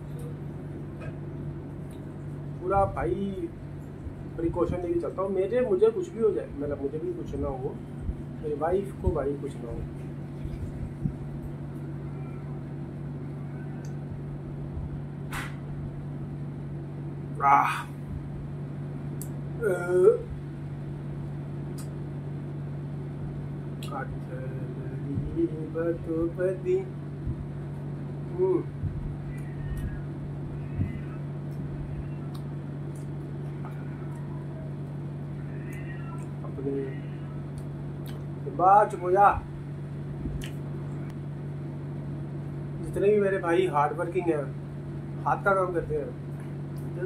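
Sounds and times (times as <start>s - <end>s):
appliance humming: 0.0s - 47.0s.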